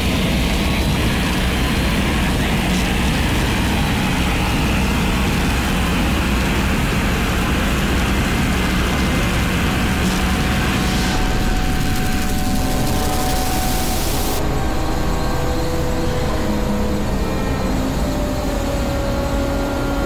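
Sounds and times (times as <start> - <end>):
low droning rumble: 0.0 - 20.0.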